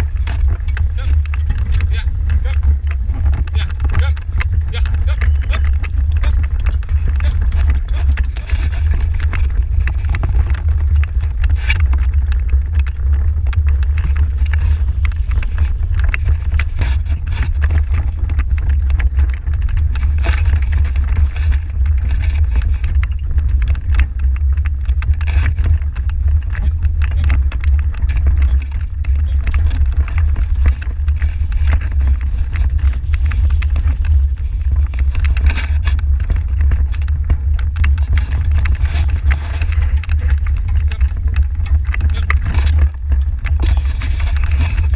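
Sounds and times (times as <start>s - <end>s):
carriage rattling and knocking: 0.0s - 44.9s
carriage rumbling over grass: 0.0s - 44.9s
wind buffeting microphone: 0.0s - 44.9s.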